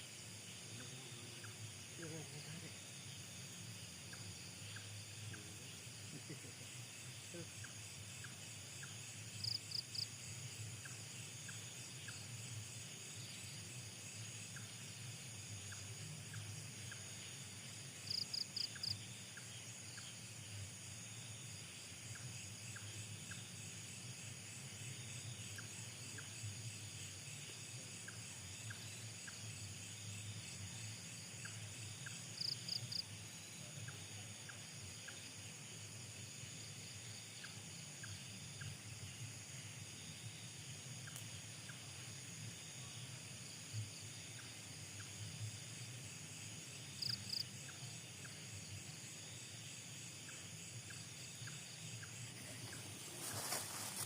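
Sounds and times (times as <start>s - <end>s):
crickets trilling: 0.0s - 54.0s
insect chirps: 0.0s - 54.0s.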